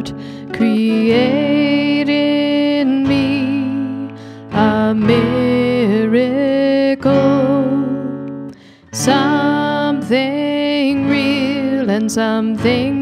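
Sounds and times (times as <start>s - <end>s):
strummed acoustic guitar: 0.0s - 13.0s
woman singing: 0.0s - 13.0s.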